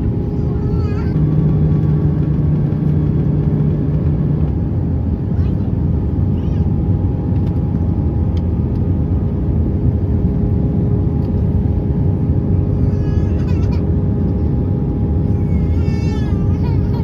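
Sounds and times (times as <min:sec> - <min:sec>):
aircraft cabin engine rumble: 0:00.0 - 0:17.0
steady hum tones: 0:00.0 - 0:17.0.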